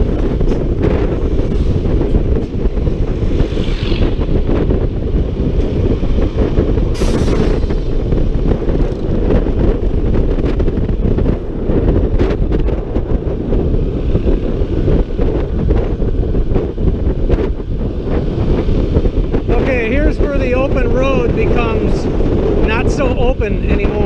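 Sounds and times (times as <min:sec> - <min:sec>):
road and engine noise: 0:00.0 - 0:24.0
wind buffeting microphone: 0:00.0 - 0:24.0.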